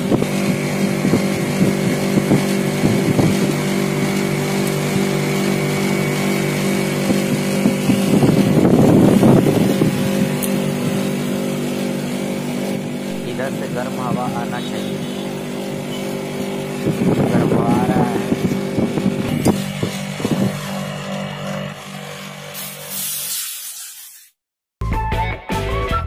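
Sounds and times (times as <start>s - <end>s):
air conditioner unit humming: 0.0s - 22.6s.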